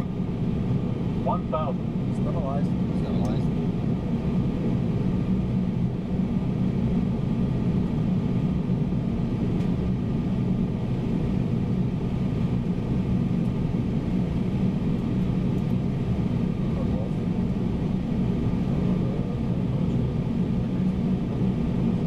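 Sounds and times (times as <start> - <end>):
cockpit airflow and engine noise: 0.0 - 22.0.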